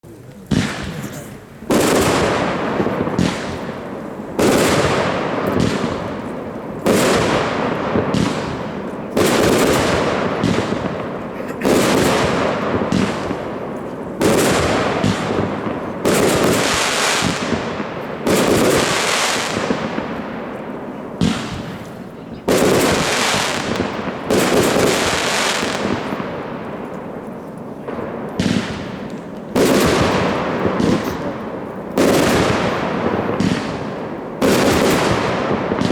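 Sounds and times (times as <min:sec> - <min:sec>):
fireworks shots: 0:00.0 - 0:35.9.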